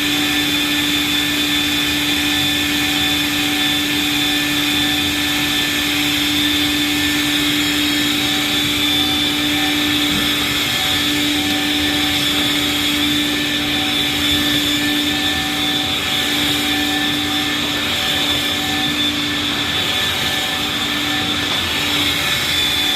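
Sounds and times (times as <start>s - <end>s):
vacuum cleaner running: 0.0s - 22.9s.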